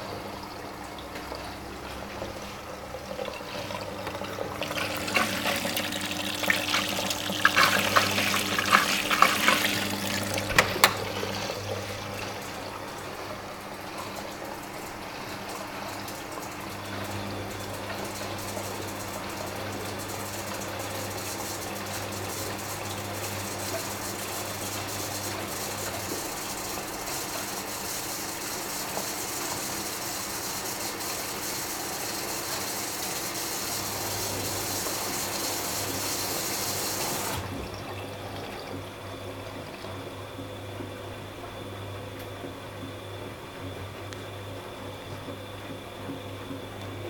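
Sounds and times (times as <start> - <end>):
washing machine low hum: 0.0 - 47.0
water rushing in washing machine: 0.0 - 47.0.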